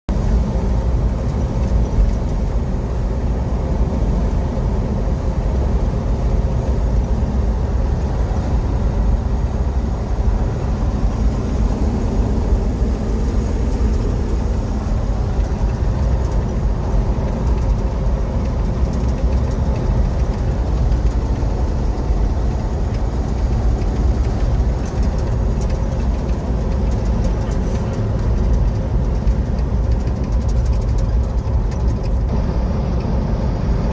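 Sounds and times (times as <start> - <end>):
truck engine and road noise: 0.0 - 33.9.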